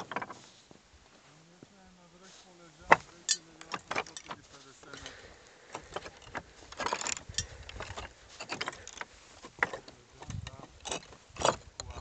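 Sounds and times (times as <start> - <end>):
footsteps on rock scree: 0.0 - 12.0.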